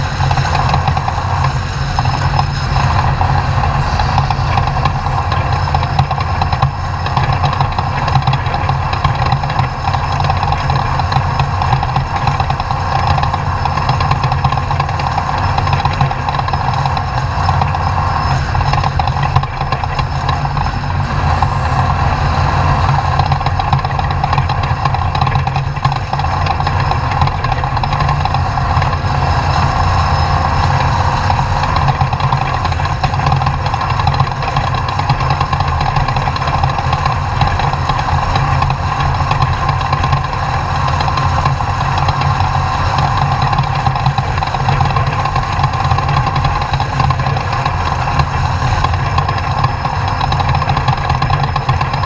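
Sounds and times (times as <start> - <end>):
truck engine droning: 0.0 - 52.0.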